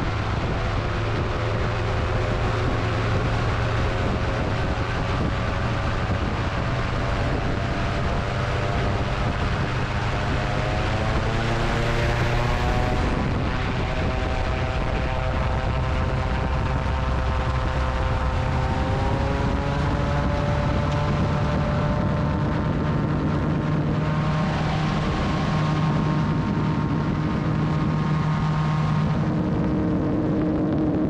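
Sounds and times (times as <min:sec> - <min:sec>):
aircraft engine and propeller: 0:00.0 - 0:31.0.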